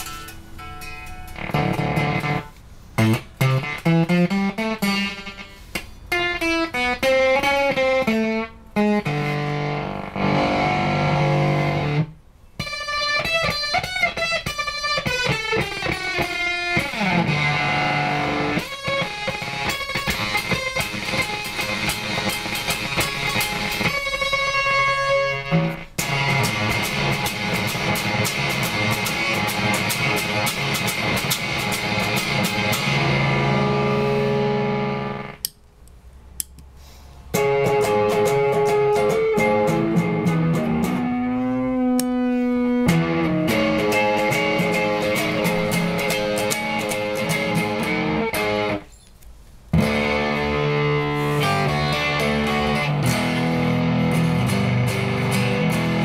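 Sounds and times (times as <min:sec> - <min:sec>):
electric guitar with modulated effects: 0:00.0 - 0:35.5, 0:37.2 - 0:49.0, 0:49.7 - 0:56.0.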